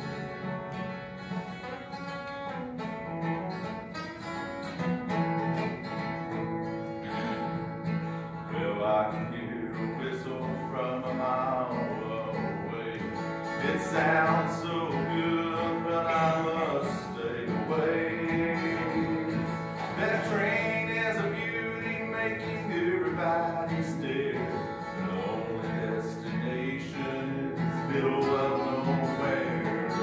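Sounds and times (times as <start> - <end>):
acoustic guitar strumming: 0.0 - 30.0
man singing country song: 5.5 - 30.0.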